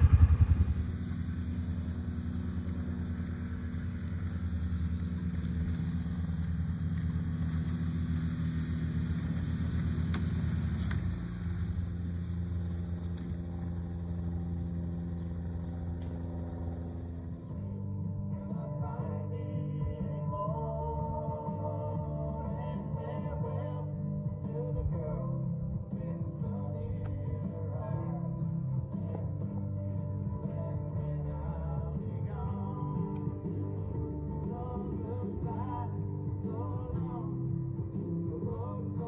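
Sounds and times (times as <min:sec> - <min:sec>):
utility vehicle engine running: 0:00.0 - 0:39.0.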